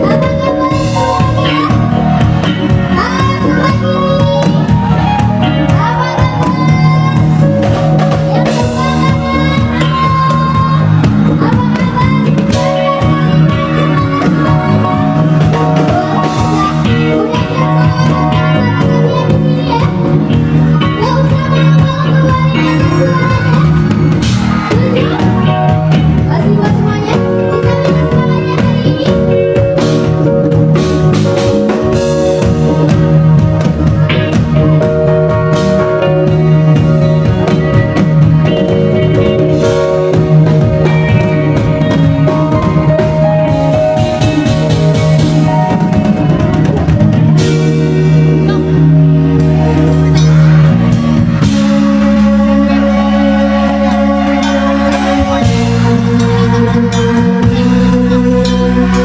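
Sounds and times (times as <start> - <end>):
drum kit playing: 0.0 - 59.0
electric guitar: 0.0 - 59.0
keyboard chords: 0.0 - 59.0.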